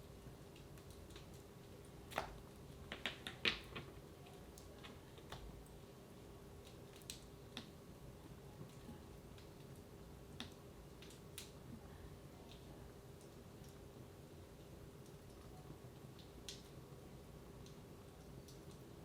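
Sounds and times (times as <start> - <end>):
faint steady hum: 0.0 - 19.0
wood fire crackling: 0.0 - 19.0.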